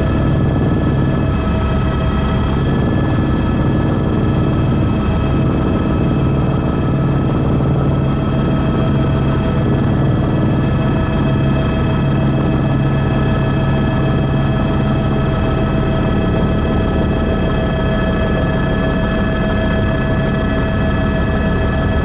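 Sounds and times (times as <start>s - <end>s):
helicopter engine and rotor drone: 0.0s - 22.0s.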